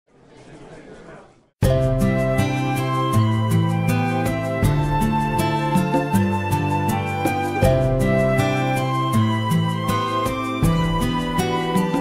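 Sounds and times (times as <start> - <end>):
slow gentle melodic music: 1.6 - 12.0.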